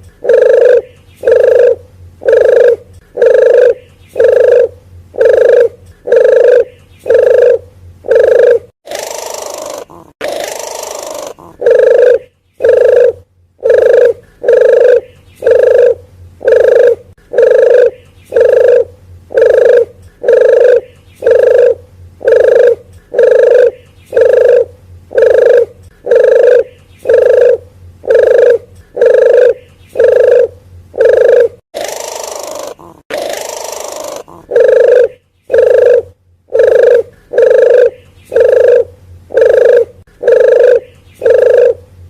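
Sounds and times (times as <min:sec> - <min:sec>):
dove cooing: 0:00.1 - 0:41.9
longer bird call: 0:00.2 - 0:41.9.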